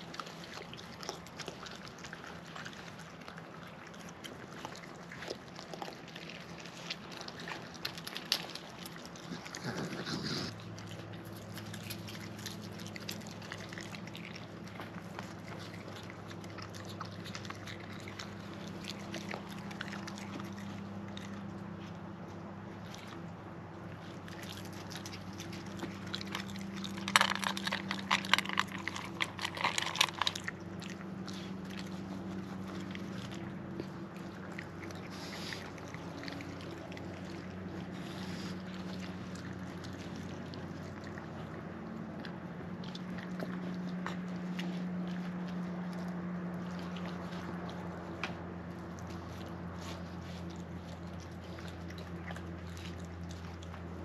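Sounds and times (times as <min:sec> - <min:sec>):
raccoon chewing and crunching food: 0:00.0 - 0:54.0
steady low hum: 0:00.0 - 0:54.0.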